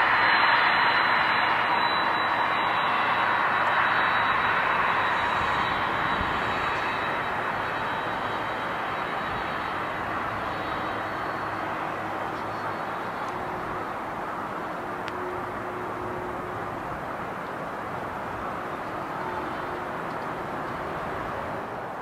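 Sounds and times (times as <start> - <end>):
jet airliner engines: 0.0 - 22.0.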